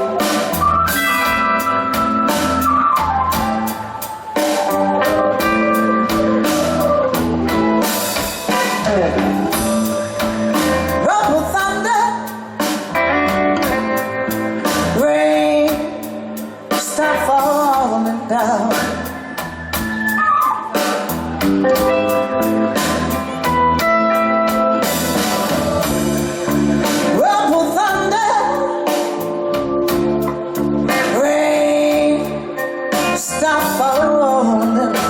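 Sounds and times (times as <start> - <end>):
person singing: 0.0 - 12.9, 13.5 - 35.0
live blues band playing: 0.0 - 35.0.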